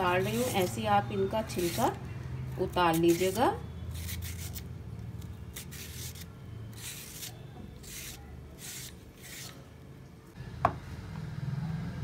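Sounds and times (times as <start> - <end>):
peeler scraping banana skin: 0.0 - 9.7.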